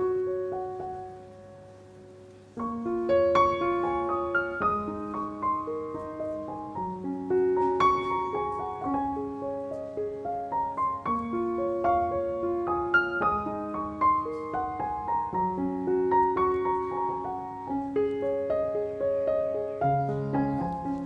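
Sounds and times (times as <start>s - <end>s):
calm piano music: 0.0s - 21.0s.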